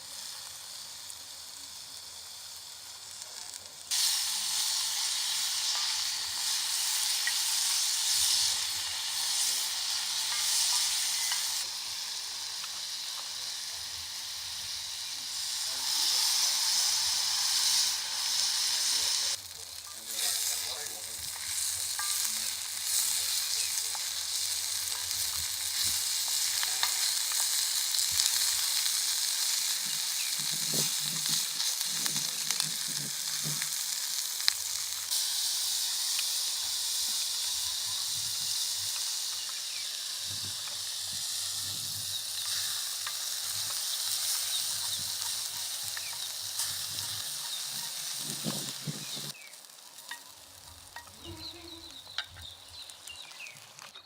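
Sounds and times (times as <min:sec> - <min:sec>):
food sizzling in hot fat: 0:00.0 - 0:54.0.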